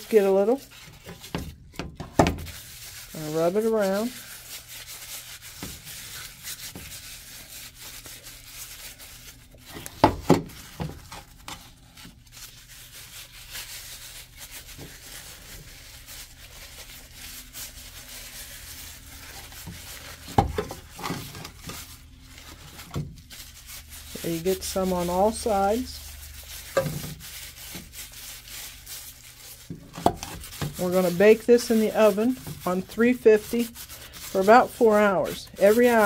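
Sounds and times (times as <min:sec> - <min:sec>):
plastic gloves crinkling: 0:00.0 - 0:36.0.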